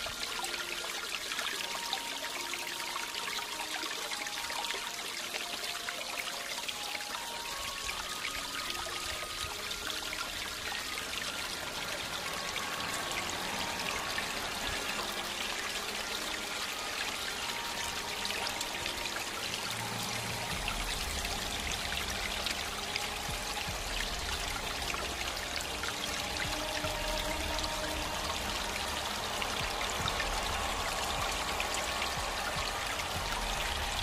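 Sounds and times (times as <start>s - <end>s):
running water hissing: 0.0s - 34.0s.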